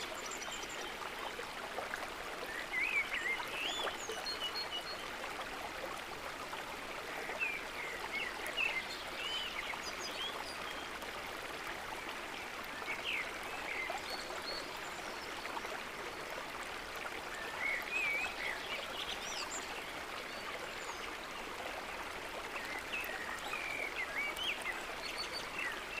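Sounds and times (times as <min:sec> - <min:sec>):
flowing stream water: 0:00.0 - 0:26.0.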